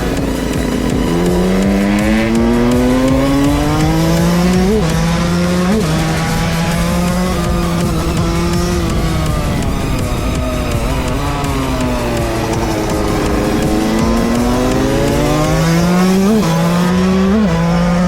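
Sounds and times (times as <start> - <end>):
two-stroke motorcycle accelerating: 0.0 - 18.0.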